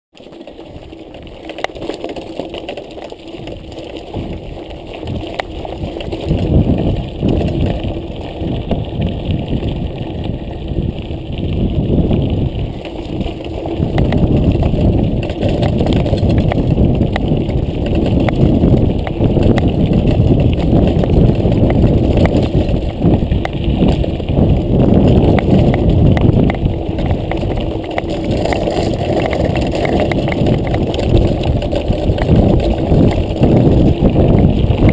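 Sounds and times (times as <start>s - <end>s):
bike rattling over bumps: 0.2s - 34.9s
bike tyres rumbling on gravel: 0.2s - 34.9s
wind on microphone: 3.4s - 34.9s.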